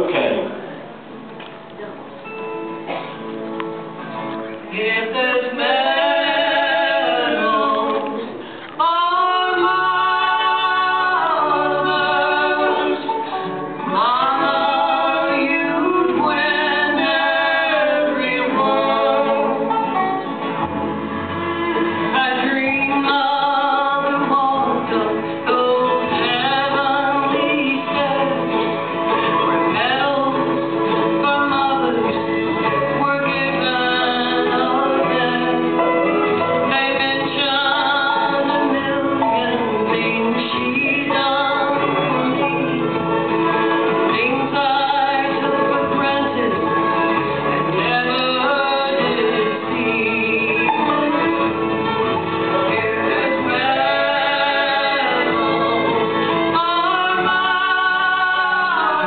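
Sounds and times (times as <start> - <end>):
acoustic guitar: 0.0 - 59.0
bluegrass band playing and singing: 0.0 - 59.0.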